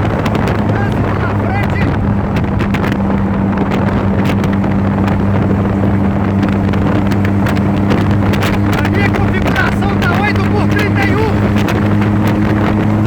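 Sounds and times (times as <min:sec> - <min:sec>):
motor tricycle engine humming: 0:00.0 - 0:13.0
wind buffeting microphone: 0:00.0 - 0:13.0.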